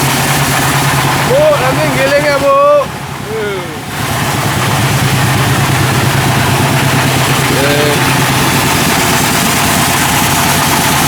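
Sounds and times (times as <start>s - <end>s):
grinding machine motor droning: 0.0s - 11.0s.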